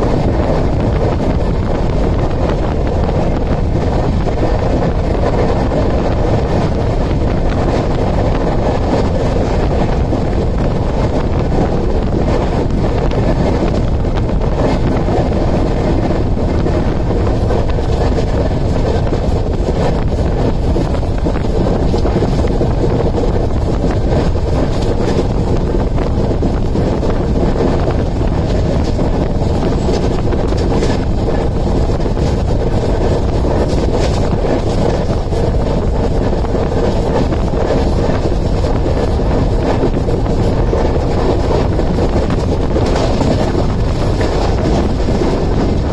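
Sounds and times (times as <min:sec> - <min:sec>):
train running on rails: 0:00.0 - 0:45.9
wind rushing over microphone: 0:00.0 - 0:45.9.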